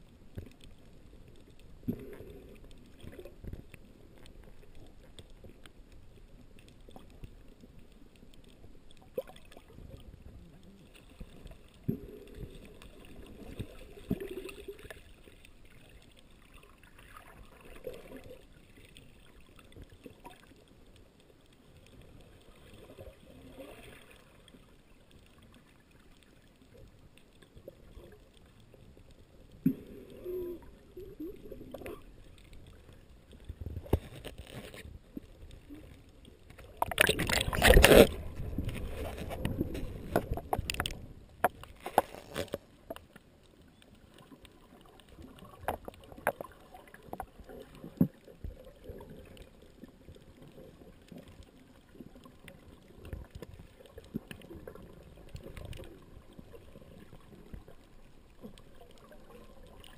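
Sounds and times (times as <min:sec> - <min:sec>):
underwater rumble: 0:00.0 - 0:59.9
water gurgles: 0:00.0 - 0:59.9.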